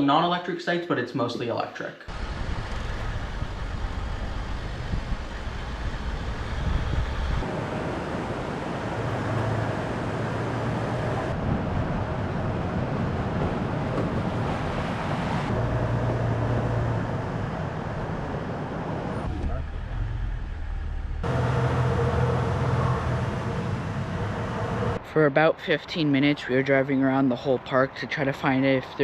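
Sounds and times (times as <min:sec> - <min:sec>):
vehicle engine and road noise: 0:02.1 - 0:29.0.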